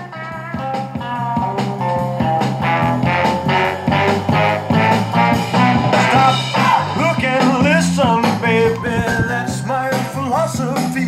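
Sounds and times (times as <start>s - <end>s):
song from record player: 0.0s - 11.0s.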